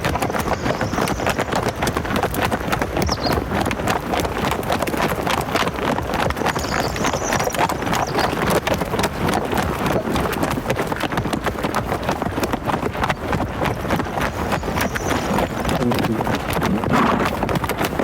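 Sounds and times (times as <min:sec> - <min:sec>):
hooves galloping: 0:00.0 - 0:18.0.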